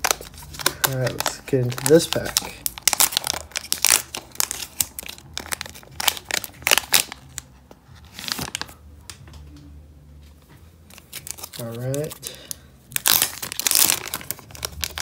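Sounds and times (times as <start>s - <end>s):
foil pack crinkling and tearing: 0.0s - 7.5s, 8.1s - 8.8s, 10.9s - 15.0s.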